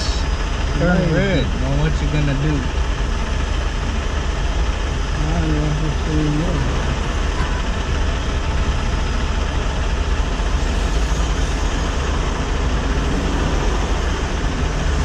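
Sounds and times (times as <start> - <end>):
constant low rumble: 0.0 - 15.0
cross traffic driving by: 0.0 - 15.0.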